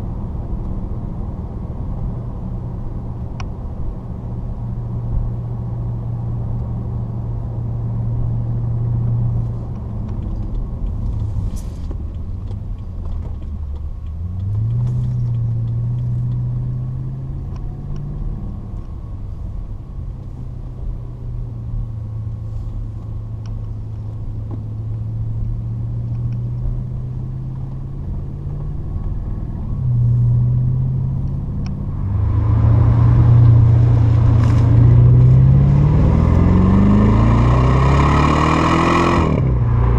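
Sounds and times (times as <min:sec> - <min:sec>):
car engine rumbling while driving: 0:00.0 - 0:39.9.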